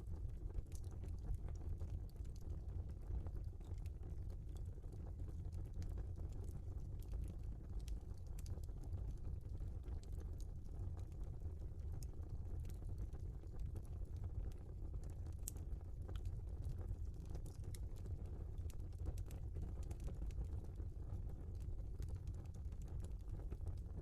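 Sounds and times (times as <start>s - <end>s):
low rumble of burning: 0.0s - 24.0s
log fire crackling and popping: 3.3s - 24.0s.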